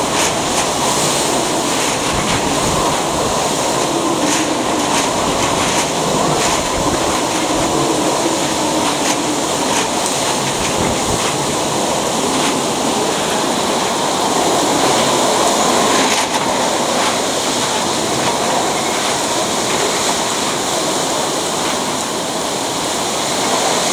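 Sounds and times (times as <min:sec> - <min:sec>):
storm rushing: 0:00.0 - 0:23.9.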